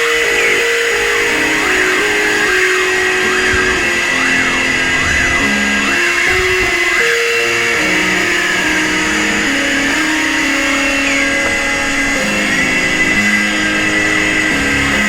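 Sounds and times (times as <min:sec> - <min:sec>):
continuous high tone: 0:00.0 - 0:15.0
music of held notes: 0:00.0 - 0:15.0.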